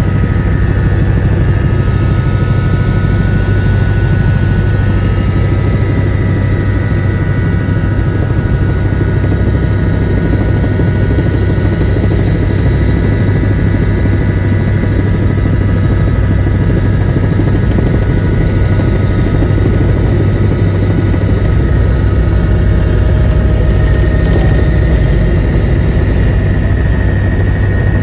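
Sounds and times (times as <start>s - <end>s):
helicopter rotor drone: 0.0s - 28.0s
high whine: 0.0s - 28.0s.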